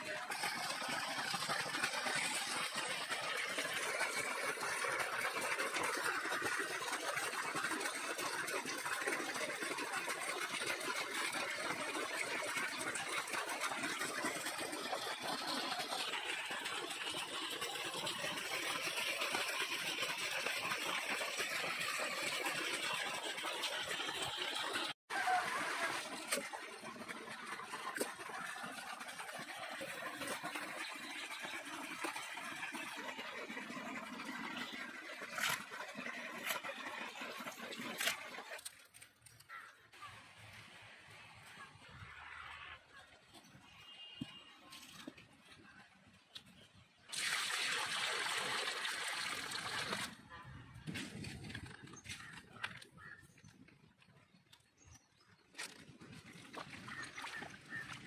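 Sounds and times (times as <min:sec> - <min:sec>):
running water and splashing: 0:00.0 - 0:53.4, 0:55.5 - 0:58.0.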